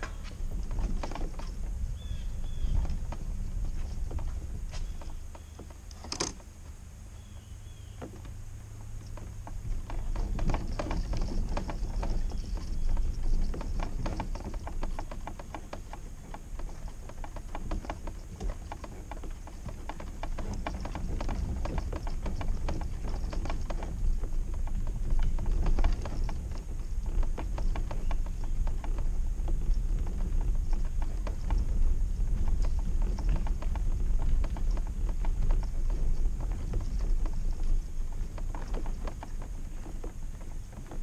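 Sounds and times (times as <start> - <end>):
kayak cart wheels clicking and rattling: 0.0 - 41.0.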